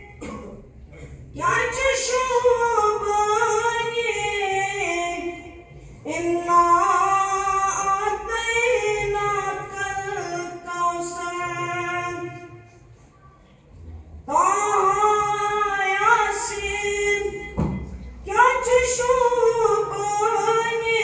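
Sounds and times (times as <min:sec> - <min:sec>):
boy singing unaccompanied: 0:01.4 - 0:12.6, 0:14.3 - 0:17.6, 0:18.2 - 0:21.0.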